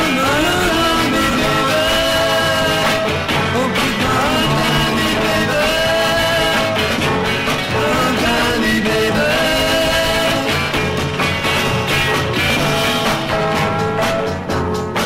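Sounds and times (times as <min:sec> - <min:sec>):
rock band with singing: 0:00.0 - 0:15.0.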